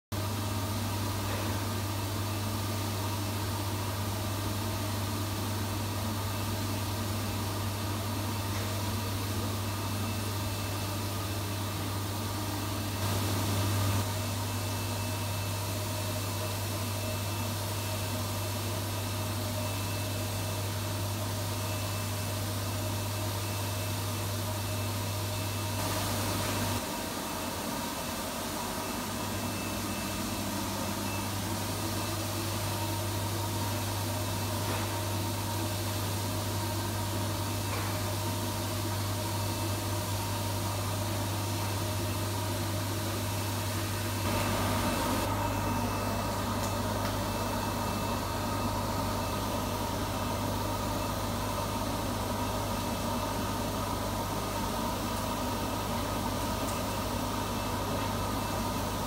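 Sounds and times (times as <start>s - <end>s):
treadmill blower hum and air noise: 0.1s - 59.0s.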